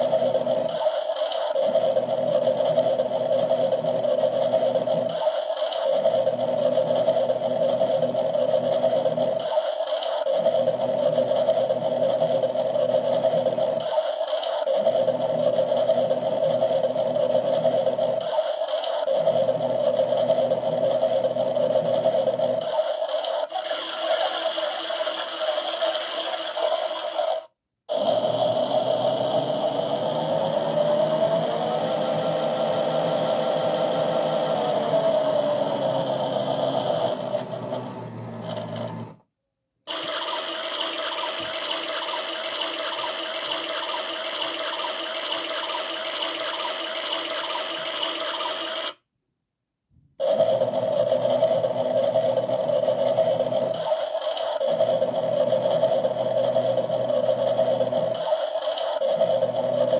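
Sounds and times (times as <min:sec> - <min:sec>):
washing machine motor whine: 0:00.0 - 0:39.3, 0:39.9 - 0:49.0, 0:50.2 - 0:59.9.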